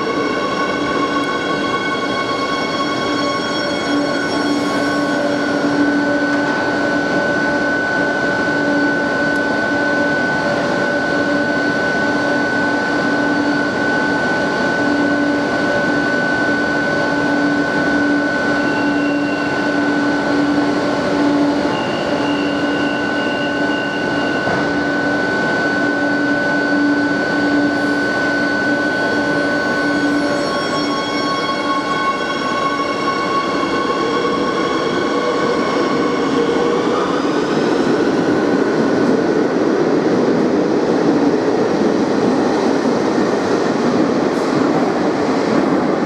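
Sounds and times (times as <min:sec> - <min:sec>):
train equipment hum and whine: 0:00.0 - 0:46.0.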